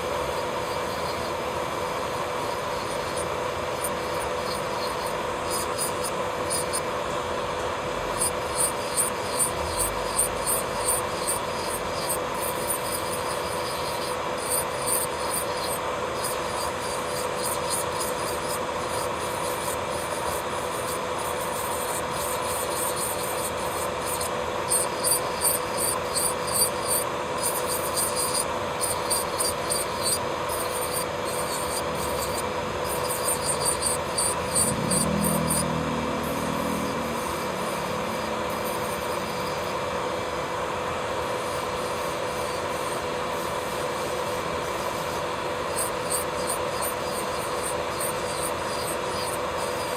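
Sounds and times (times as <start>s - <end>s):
drill bit grinding nail: 0.0s - 49.9s
electric nail drill whining: 0.0s - 49.9s.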